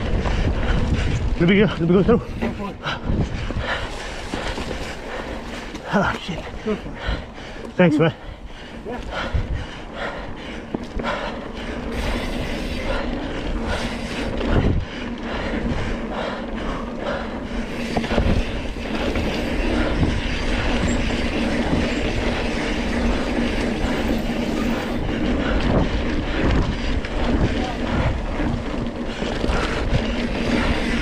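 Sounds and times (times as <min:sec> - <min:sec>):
tyre rumble on rough trail: 0:00.0 - 0:31.0.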